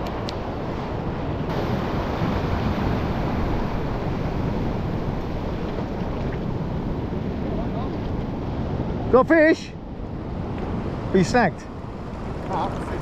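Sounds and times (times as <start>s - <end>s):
sea surf rushing: 0.0s - 13.0s
wind buffeting microphone: 0.0s - 13.0s.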